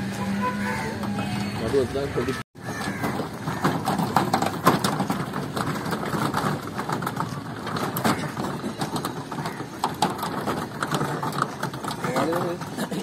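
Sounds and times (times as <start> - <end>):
metal handcart rattling: 0.0 - 13.0
knocks and clicks: 2.6 - 13.0.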